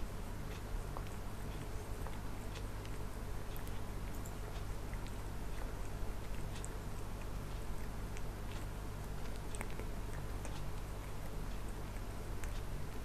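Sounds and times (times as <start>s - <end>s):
steady low hum: 0.0s - 13.0s
cat tongue licking fur: 0.5s - 13.0s.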